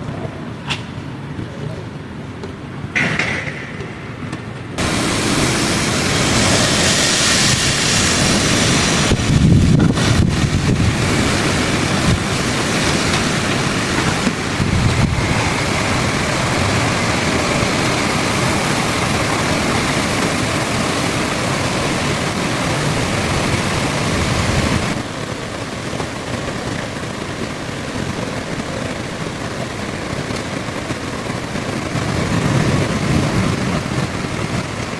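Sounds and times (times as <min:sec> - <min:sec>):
wind gusts buffeting microphone: 0:03.0 - 0:34.9
heavy rain pouring: 0:04.8 - 0:34.9.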